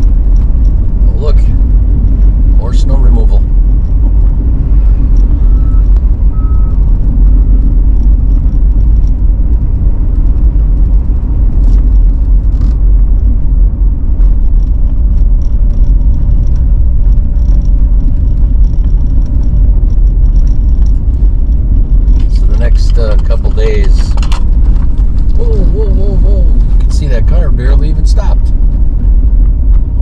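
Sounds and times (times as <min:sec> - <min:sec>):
car engine rumble inside cabin: 0:00.0 - 0:30.0
tyres on bumpy snowy road: 0:00.0 - 0:30.0.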